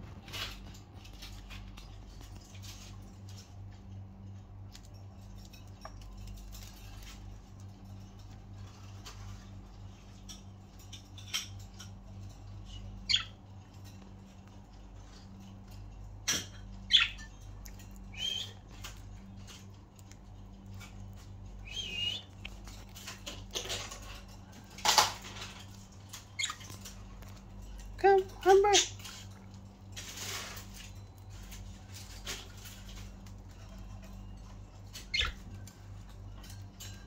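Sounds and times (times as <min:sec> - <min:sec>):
low steady hum: 0:00.0 - 0:37.0
birds pecking seed clicks: 0:00.4 - 0:37.0.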